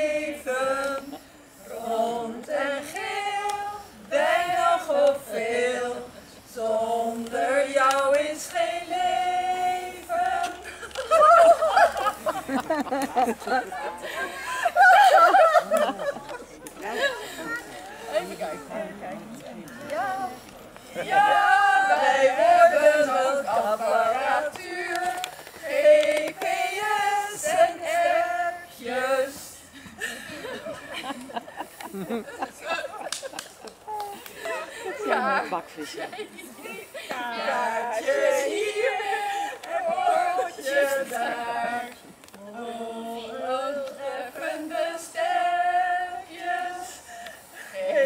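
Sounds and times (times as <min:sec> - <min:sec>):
women singing unaccompanied: 0:00.0 - 0:16.4, 0:19.7 - 0:30.7, 0:36.6 - 0:48.0.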